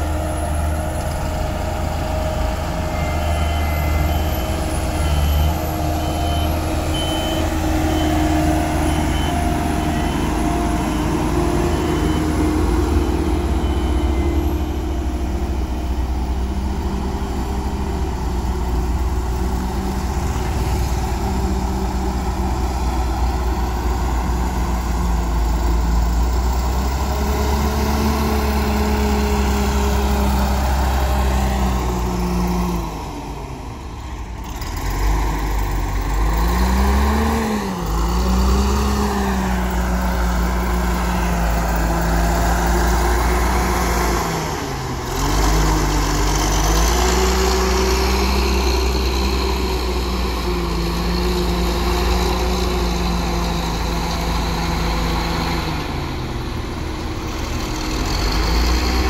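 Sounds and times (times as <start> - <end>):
heavy diesel engine rumble: 0.0 - 59.0.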